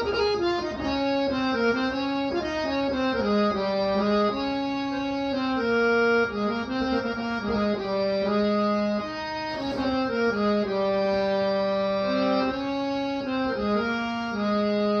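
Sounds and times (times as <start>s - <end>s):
reedy instrumental music: 0.0s - 15.0s.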